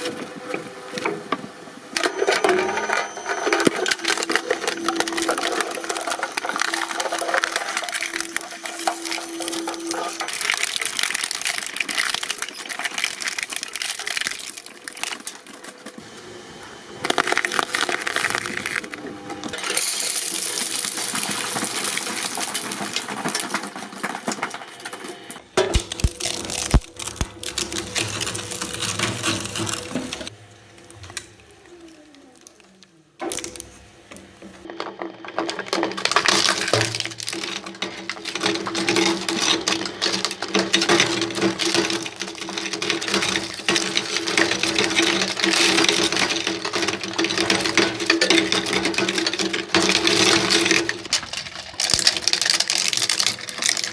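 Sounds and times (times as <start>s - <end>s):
press machines clattering: 2.0s - 16.0s, 17.1s - 31.5s, 33.2s - 53.9s.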